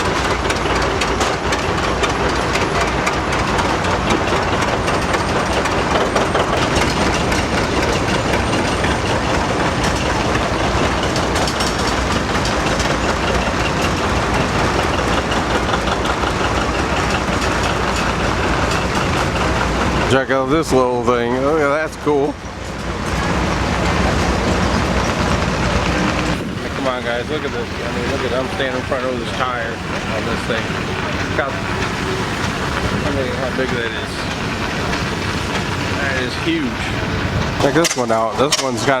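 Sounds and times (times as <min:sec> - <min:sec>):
engine running with mechanical clatter: 0:00.0 - 0:39.0.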